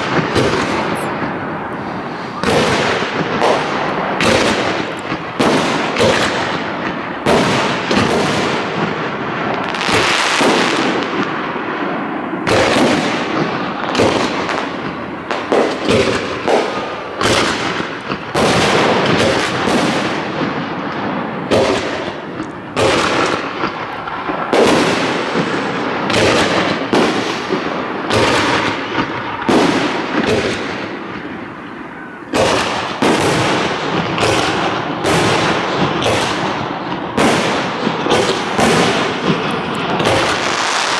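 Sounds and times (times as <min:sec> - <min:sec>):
fireworks bursting with loud bangs: 0:00.0 - 0:40.9.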